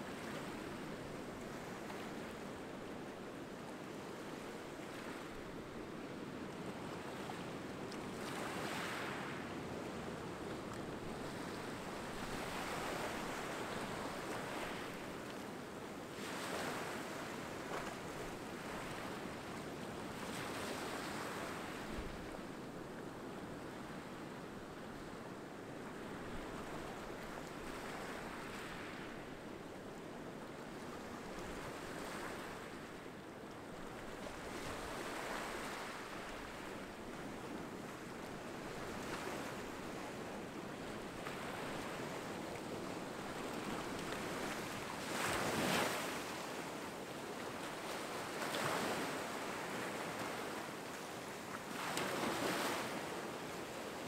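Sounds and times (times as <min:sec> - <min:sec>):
small waves washing on shore: 0:00.0 - 0:54.0.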